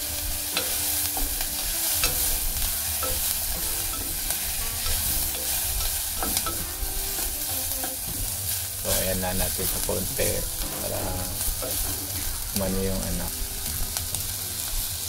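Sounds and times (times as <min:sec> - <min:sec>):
food sizzling in oil: 0:00.0 - 0:15.0
spatula stirring and scraping: 0:00.1 - 0:12.6.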